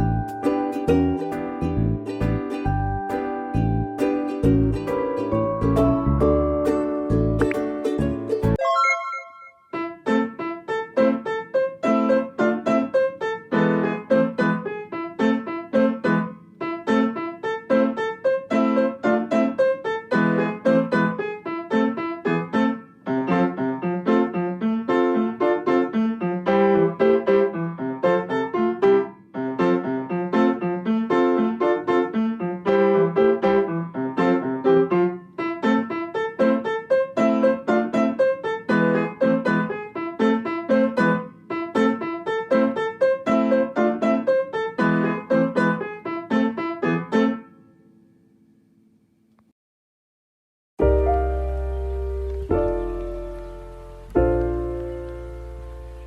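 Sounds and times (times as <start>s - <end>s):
piano music: 0.0s - 48.2s, 50.8s - 56.0s.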